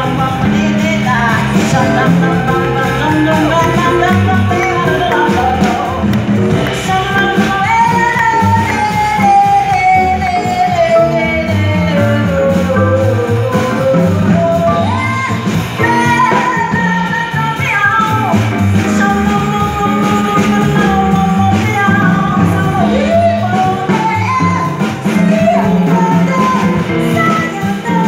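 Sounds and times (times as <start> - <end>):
upright double bass: 0.0 - 28.0
woman singing jazz: 0.0 - 28.0.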